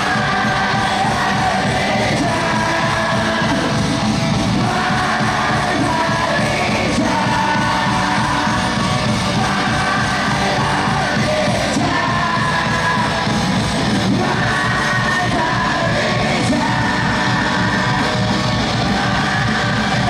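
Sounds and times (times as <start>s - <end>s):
crowd yelling and singing along: 0.0s - 20.0s
live band music with singing: 0.0s - 20.0s.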